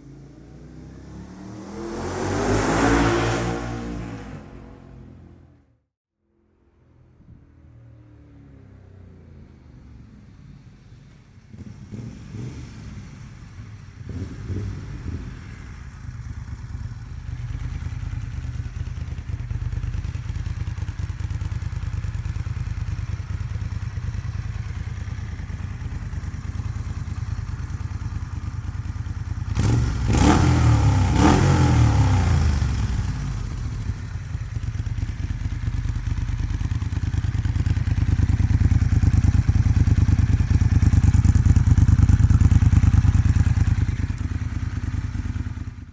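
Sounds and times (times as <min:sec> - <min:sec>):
motorcycle engine idling and revving: 0:00.0 - 0:05.9, 0:06.7 - 0:45.9.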